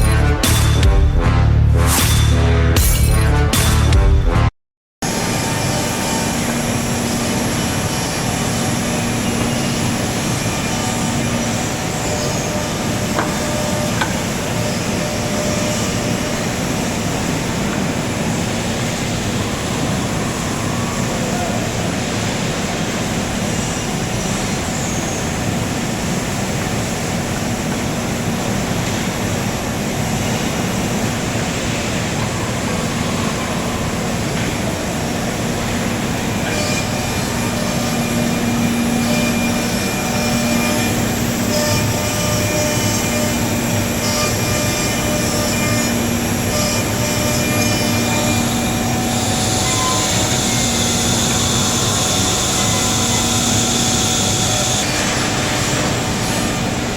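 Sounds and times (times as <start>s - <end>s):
machine humming and whining: 4.3s - 56.9s.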